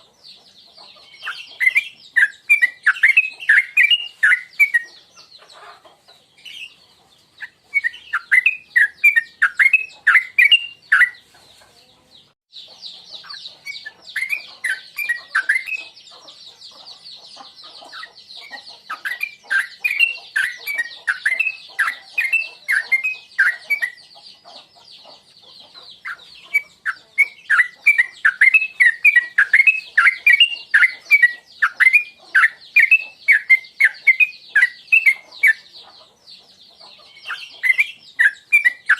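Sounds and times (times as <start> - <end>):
bird chirping in bouts: 0.0 - 38.9.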